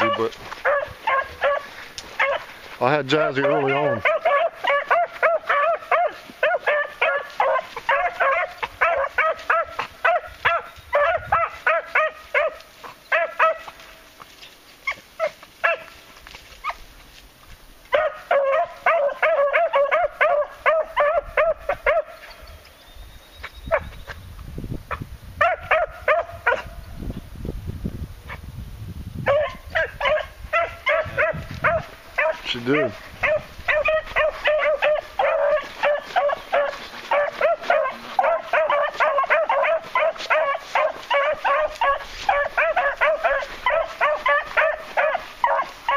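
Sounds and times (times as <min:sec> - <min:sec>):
dogs barking rapidly: 0:00.0 - 0:13.9, 0:14.8 - 0:16.0, 0:17.9 - 0:22.4, 0:23.7 - 0:24.0, 0:24.9 - 0:26.8, 0:29.2 - 0:45.9.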